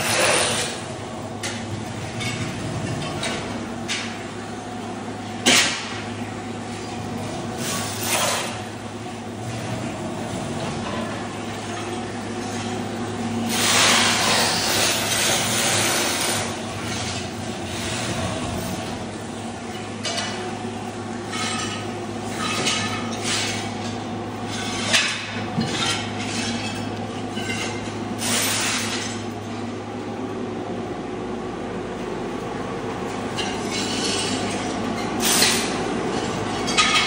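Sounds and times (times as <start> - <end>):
floor scraper machine humming: 0.0 - 30.4.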